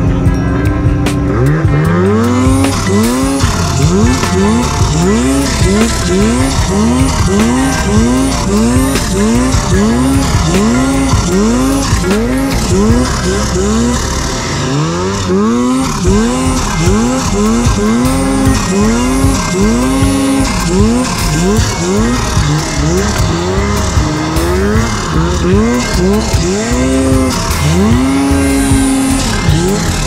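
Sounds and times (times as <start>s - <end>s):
held bass notes: 0.0s - 30.0s.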